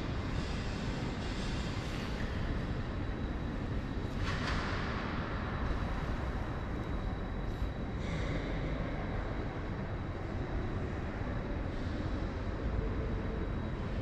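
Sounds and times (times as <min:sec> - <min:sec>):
low rumble of industrial hall: 0:00.0 - 0:14.0.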